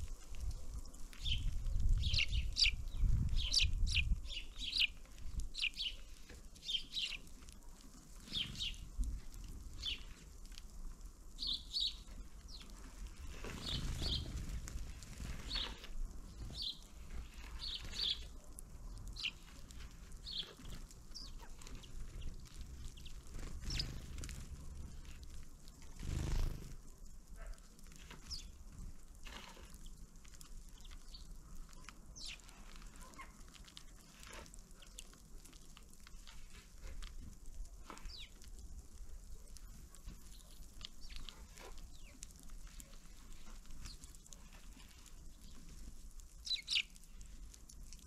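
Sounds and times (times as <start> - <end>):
small birds calling: 0.4 - 7.5, 8.2 - 9.0, 9.6 - 10.4, 11.4 - 28.7, 29.3 - 36.7, 37.8 - 45.8, 46.4 - 47.5.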